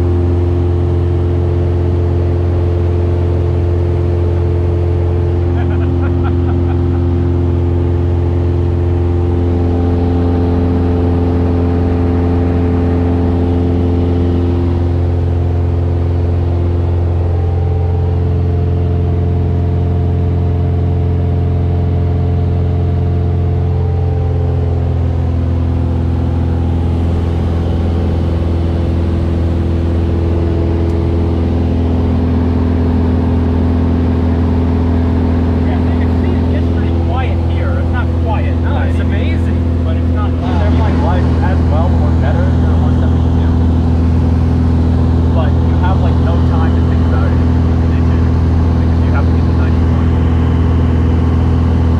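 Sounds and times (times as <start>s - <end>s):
airplane engine and propeller drone: 0.0s - 51.9s.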